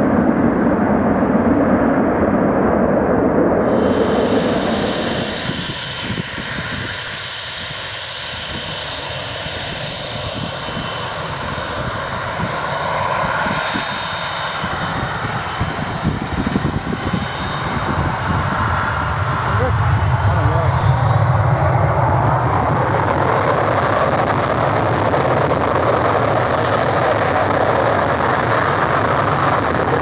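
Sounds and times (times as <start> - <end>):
jet engines whining and roaring: 0.0 - 30.0.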